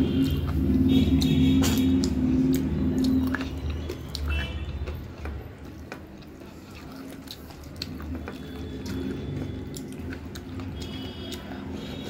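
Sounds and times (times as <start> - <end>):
chewing mouth sounds: 0.0 - 12.0
fingers squishing rice and curry: 0.0 - 12.0.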